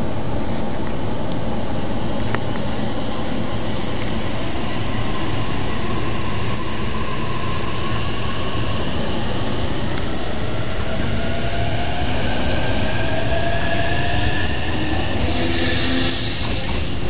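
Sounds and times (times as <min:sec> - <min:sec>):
electric train rumble and hum: 0:00.0 - 0:17.0.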